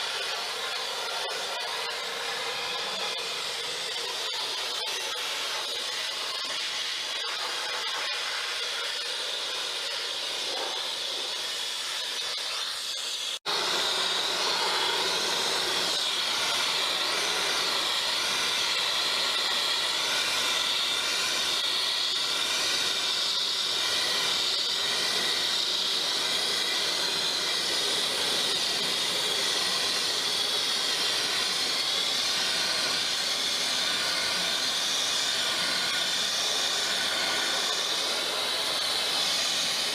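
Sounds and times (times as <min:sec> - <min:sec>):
sandblasting hiss: 0:00.0 - 0:39.9.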